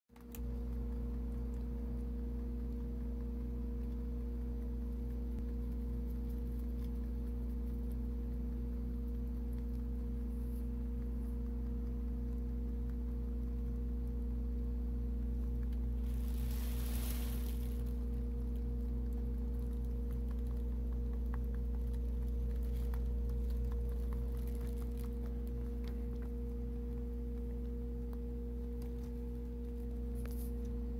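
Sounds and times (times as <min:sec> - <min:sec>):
low electrical hum: 0:00.1 - 0:30.9.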